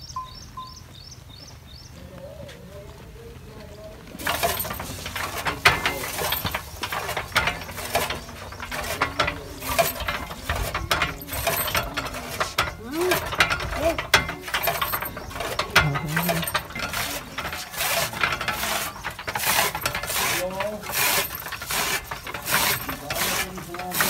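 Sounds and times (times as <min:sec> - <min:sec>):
chaff cutter clacking and chopping: 0:04.2 - 0:24.0.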